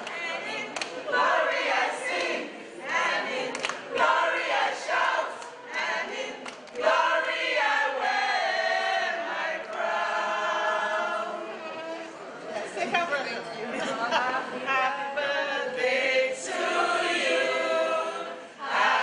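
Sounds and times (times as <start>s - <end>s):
women singing together: 0.0s - 12.0s, 13.7s - 19.0s.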